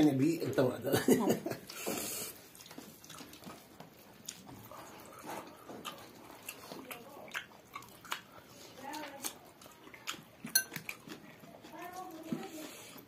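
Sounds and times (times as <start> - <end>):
chewing: 1.5 - 13.0.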